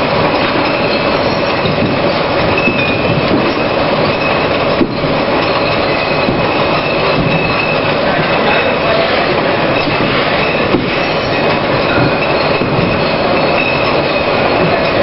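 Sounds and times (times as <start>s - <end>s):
glass bottles rattling on conveyor: 0.0s - 15.0s
labelling machine running: 0.0s - 15.0s.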